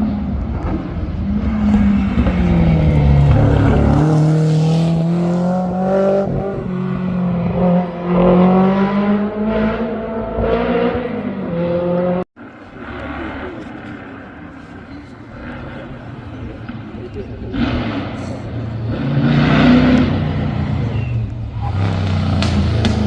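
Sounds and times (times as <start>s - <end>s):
racing car engine revving: 0.0s - 12.2s, 15.3s - 23.0s.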